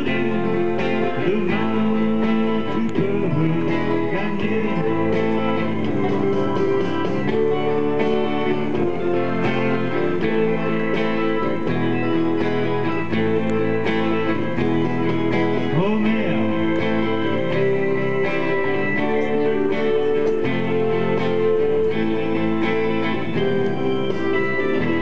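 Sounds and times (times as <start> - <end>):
electric guitar playing chords: 0.0 - 25.0.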